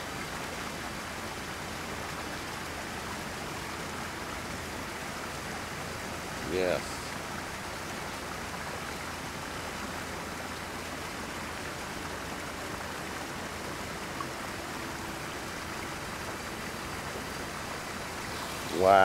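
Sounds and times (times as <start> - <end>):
rush of flowing water: 0.0 - 19.0.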